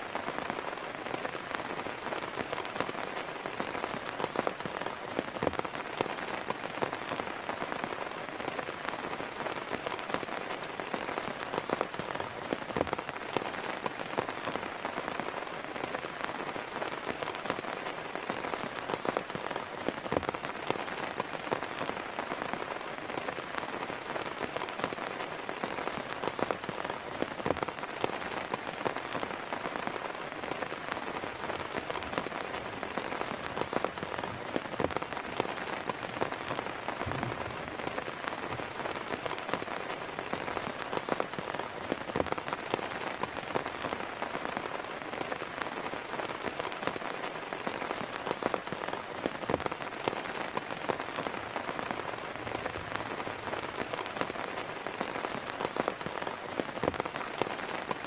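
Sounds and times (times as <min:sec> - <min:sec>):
heavy rain falling: 0:00.0 - 0:58.0
raindrops striking a surface: 0:00.0 - 0:58.0.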